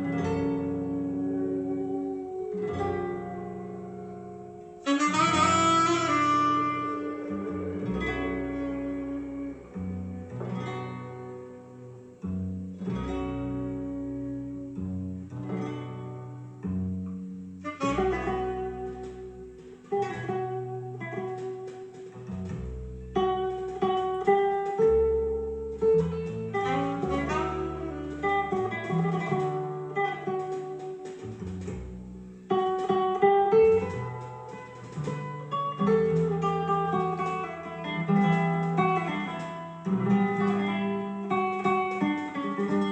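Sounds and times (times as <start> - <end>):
low bass line: 0.0 - 21.0, 22.2 - 37.4
plucked guitar music: 0.0 - 42.9.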